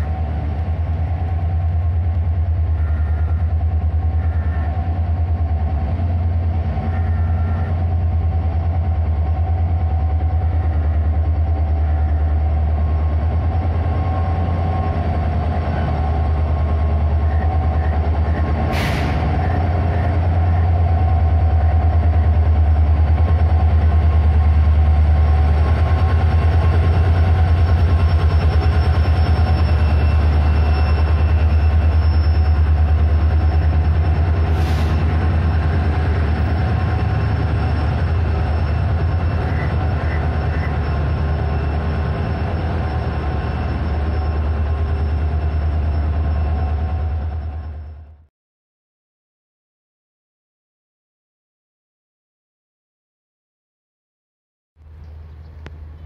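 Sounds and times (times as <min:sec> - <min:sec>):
diesel locomotive engine drone: 0:00.0 - 0:48.3, 0:54.8 - 0:56.0.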